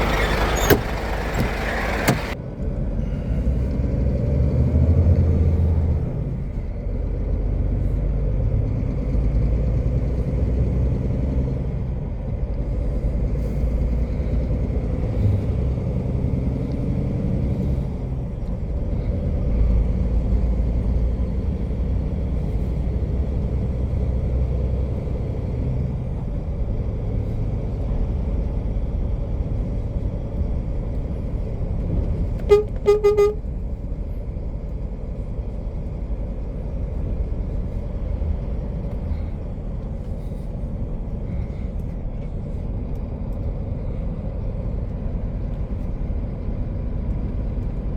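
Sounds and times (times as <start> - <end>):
truck diesel engine rumbling: 0.0 - 47.9.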